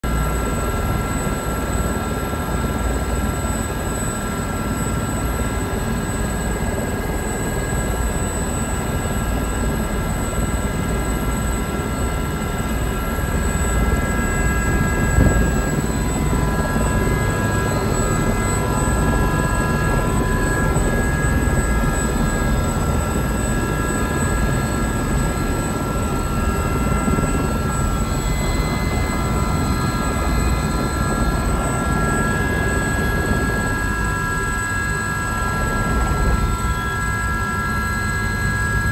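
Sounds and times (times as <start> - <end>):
helicopter high whine: 0.0 - 38.9
helicopter rotor noise: 0.0 - 38.9.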